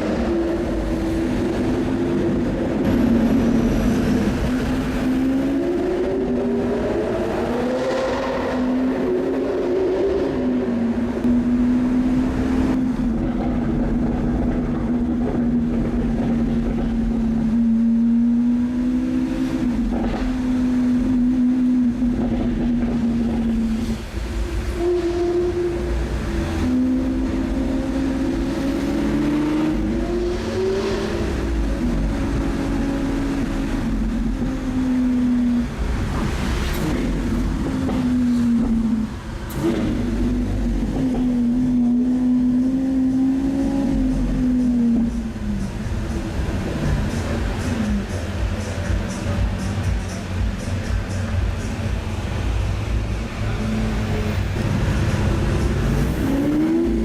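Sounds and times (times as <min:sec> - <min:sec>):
car engine revving while driving: 0:00.0 - 0:57.0.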